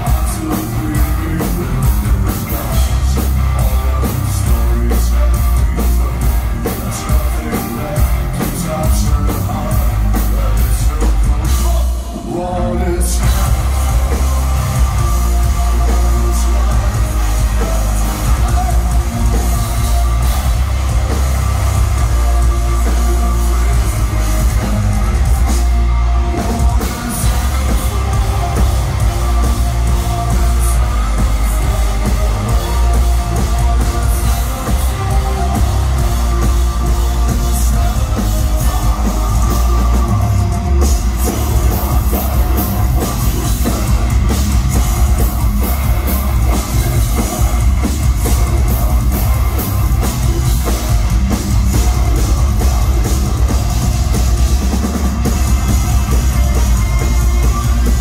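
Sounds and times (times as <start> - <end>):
heavy rock band playing live: 0.0 - 58.0.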